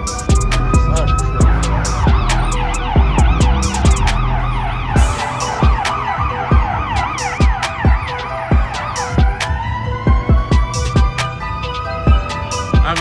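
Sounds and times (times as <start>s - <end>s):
music with heavy bass drum: 0.0s - 13.0s
siren yelping: 0.0s - 13.0s.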